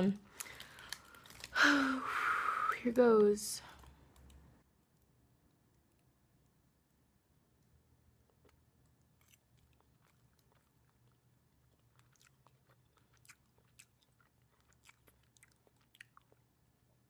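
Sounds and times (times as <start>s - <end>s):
low room hum: 0.0s - 17.0s
faint chewing: 0.3s - 1.6s, 3.6s - 17.0s.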